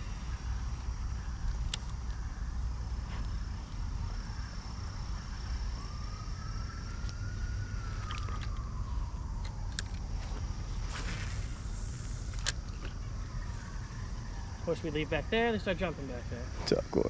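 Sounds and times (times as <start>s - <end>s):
distant siren wailing: 0.0s - 17.0s.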